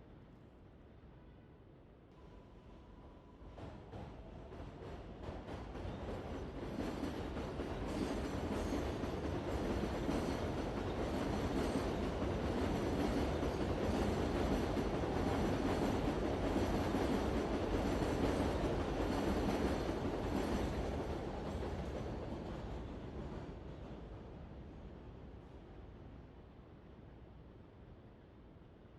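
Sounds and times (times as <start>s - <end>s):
metro train rumbling on rails: 2.2s - 28.4s.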